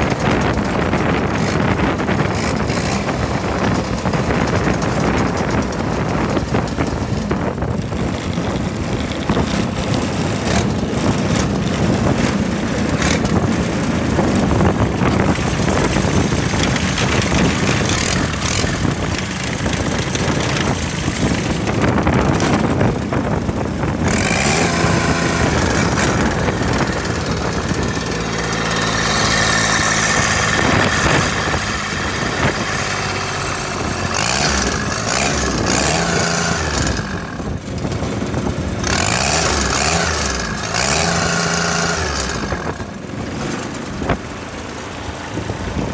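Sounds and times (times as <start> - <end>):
diesel lawnmower engine running: 0.0 - 45.9.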